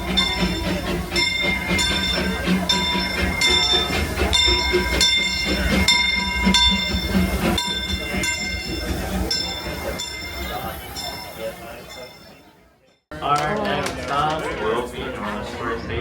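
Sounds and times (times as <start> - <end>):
locomotive bell ringing: 0.0 - 13.1
low steady train hum: 0.0 - 16.0.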